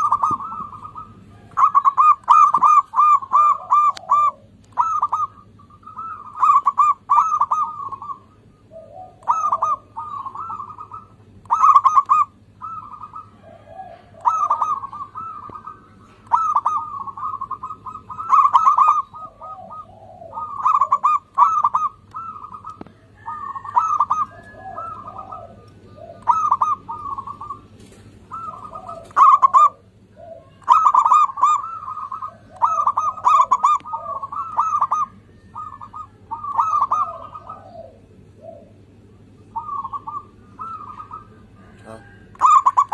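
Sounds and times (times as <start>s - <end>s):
dove cooing song: 0.0s - 42.9s.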